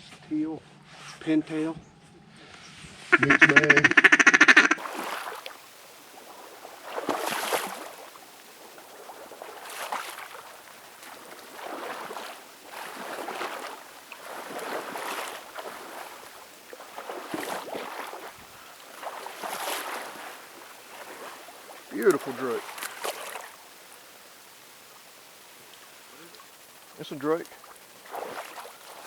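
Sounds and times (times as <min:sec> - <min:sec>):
wading through water sloshing: 0:03.5 - 0:29.0.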